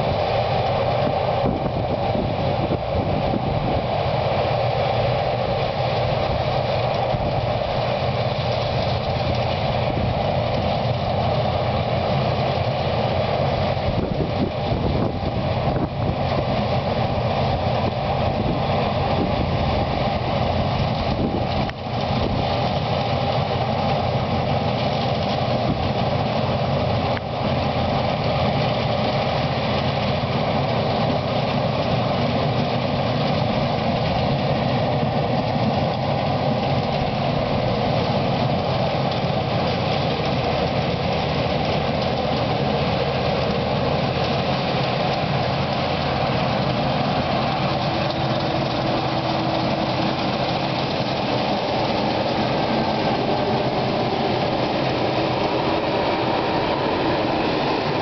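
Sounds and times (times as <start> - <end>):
combine harvester droning: 0.0 - 58.0.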